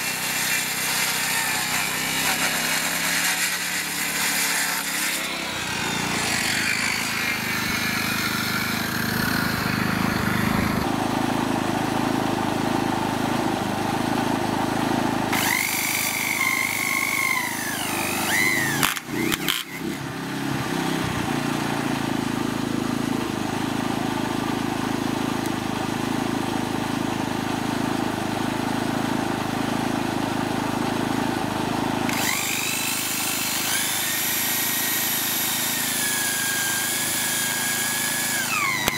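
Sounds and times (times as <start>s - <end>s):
high motor whine: 0.0s - 26.8s, 28.0s - 38.9s
power tool cutting timber: 0.0s - 38.9s.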